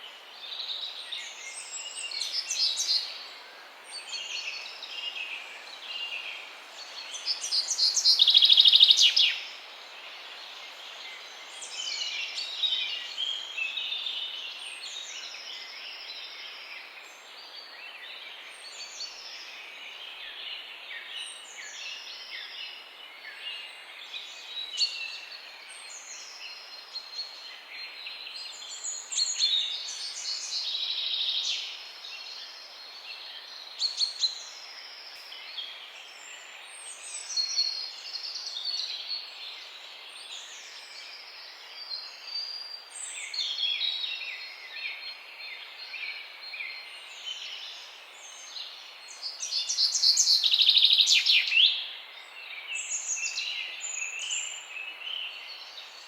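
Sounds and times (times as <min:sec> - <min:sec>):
faint background hiss: 0:00.0 - 0:56.0
songbirds singing and chirping: 0:00.0 - 0:56.0.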